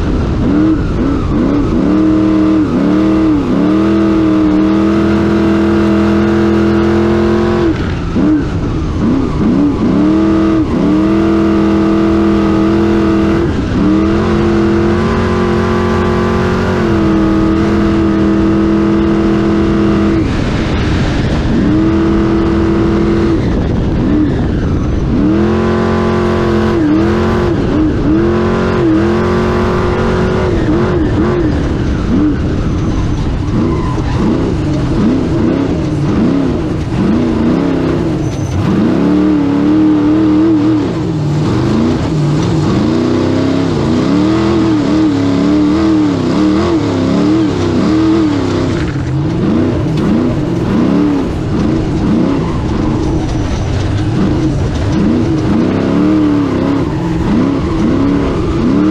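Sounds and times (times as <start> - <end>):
race car engine revving: 0.0 - 58.9
tyre and wind noise: 0.0 - 58.9.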